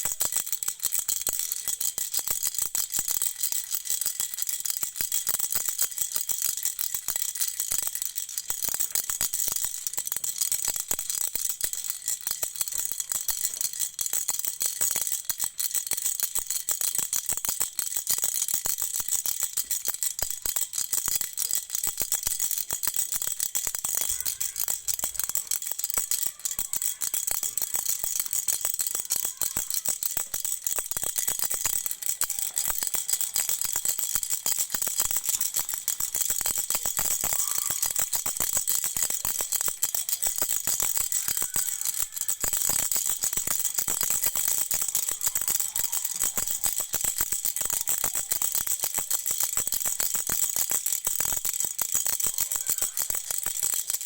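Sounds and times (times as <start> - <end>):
toy rattle shaken: 0.0 - 54.0.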